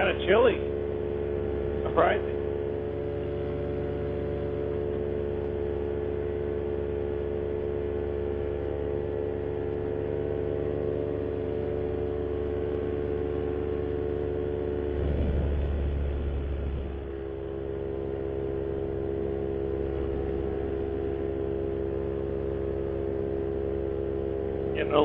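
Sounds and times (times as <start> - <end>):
paramotor engine and propeller: 0.0 - 25.0.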